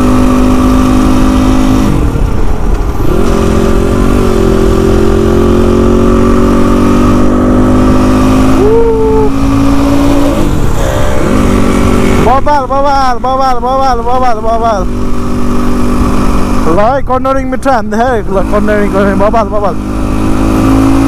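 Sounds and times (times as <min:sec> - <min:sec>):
motorcycle engine changing gears: 0:00.0 - 0:21.0.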